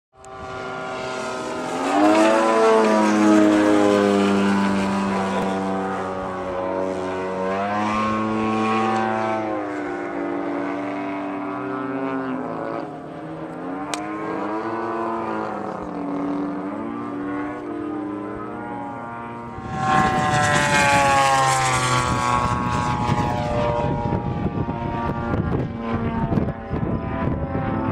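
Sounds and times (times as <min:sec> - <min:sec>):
model plane engines droning: 0:00.2 - 0:27.9.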